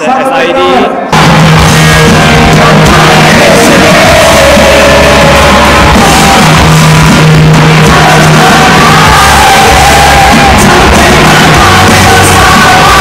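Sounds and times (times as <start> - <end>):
crowd shouting: 0.0 - 13.0
live band music: 1.2 - 13.0
person singing: 1.2 - 13.0.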